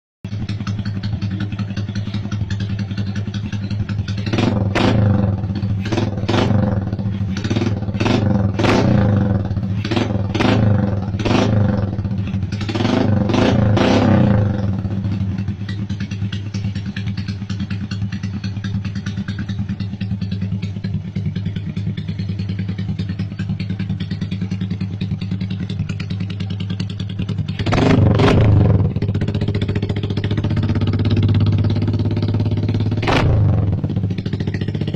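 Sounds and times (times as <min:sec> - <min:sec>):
motorcycle idling and revving: 0:00.2 - 0:34.9.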